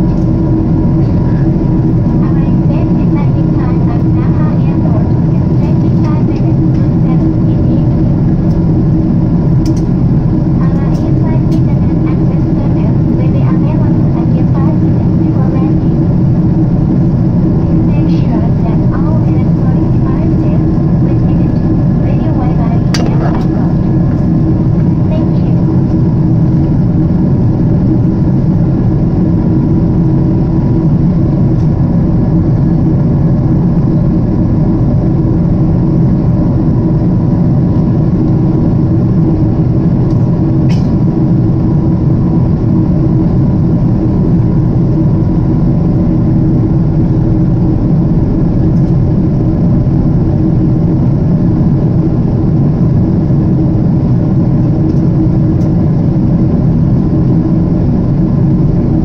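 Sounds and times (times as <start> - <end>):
jet airliner cabin drone: 0.0 - 59.0.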